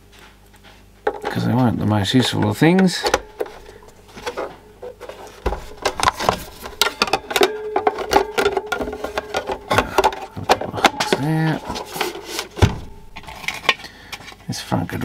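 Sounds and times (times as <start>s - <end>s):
plastic clicks and knocks: 1.1s - 13.8s.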